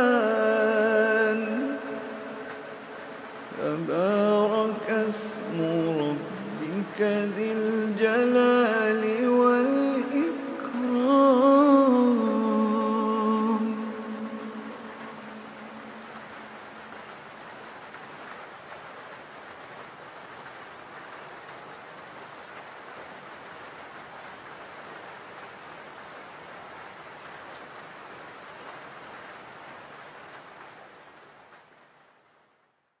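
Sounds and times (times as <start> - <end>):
steady rainfall: 0.0 - 33.0.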